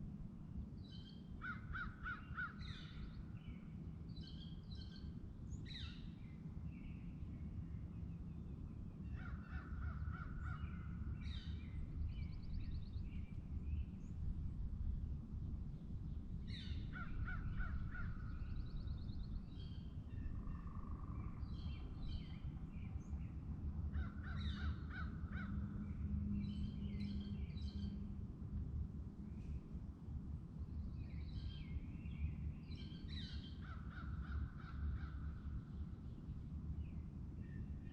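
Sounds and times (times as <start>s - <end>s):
low outdoor rumble: 7.2s - 37.9s.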